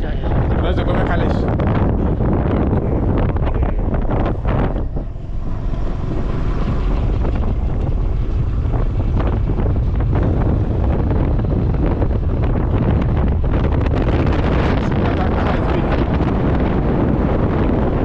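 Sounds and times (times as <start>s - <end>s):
road noise: 0.0s - 18.0s
wind buffeting microphone: 0.0s - 18.0s
motorcycle engine: 1.6s - 18.0s.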